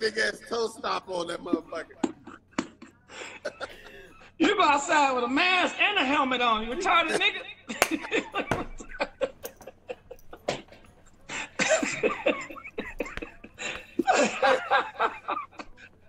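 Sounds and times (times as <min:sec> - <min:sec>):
men laughing: 0:00.0 - 0:04.7, 0:06.6 - 0:16.0.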